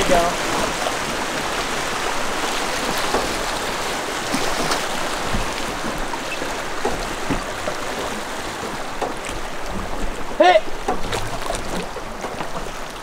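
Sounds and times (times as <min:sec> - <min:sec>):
river current rushing: 0:00.0 - 0:13.0.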